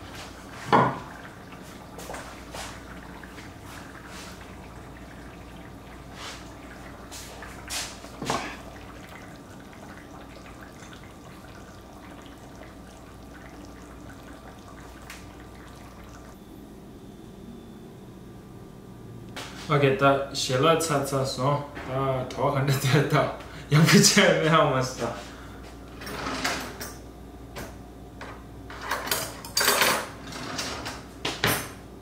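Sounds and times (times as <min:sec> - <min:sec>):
faint kitchen background: 0:00.0 - 0:32.0.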